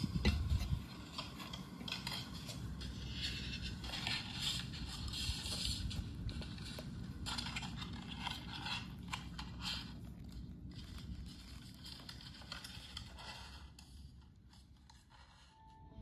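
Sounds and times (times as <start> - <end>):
rustling and scraping of handling: 0.0 - 16.0.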